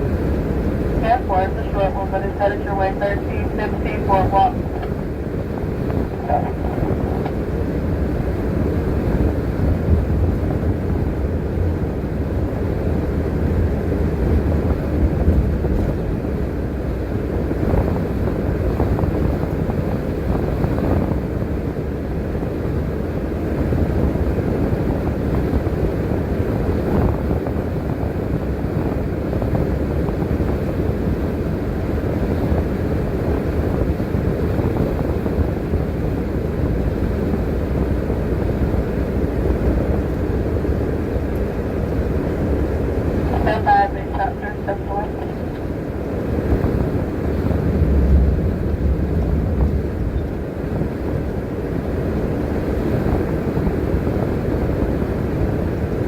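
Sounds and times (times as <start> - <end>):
bus engine and tyre rumble: 0.0 - 56.0.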